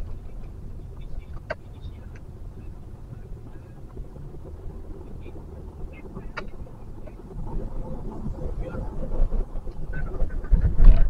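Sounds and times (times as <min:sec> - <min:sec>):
car and motorbike engines idling: 0:00.0 - 0:11.0
city traffic rumble: 0:00.0 - 0:11.0.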